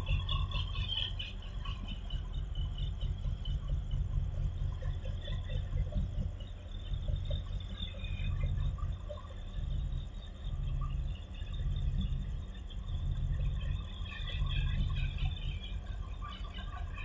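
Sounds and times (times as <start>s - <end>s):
insects chirping: 0.0s - 17.0s
low rumble: 0.0s - 17.0s.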